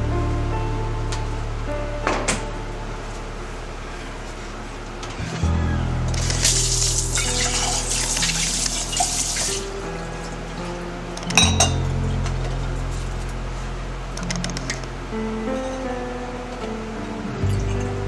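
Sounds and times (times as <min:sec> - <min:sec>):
background music: 0:00.0 - 0:04.2, 0:05.2 - 0:18.0.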